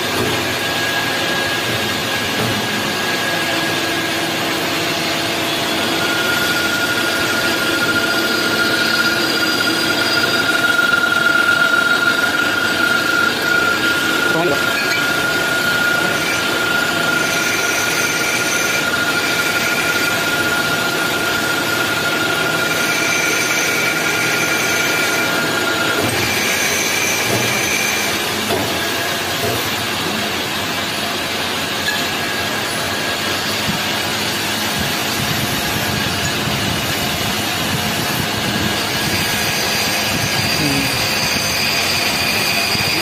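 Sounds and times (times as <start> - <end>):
high machine whine: 0.0 - 43.0
machine running: 0.0 - 43.0.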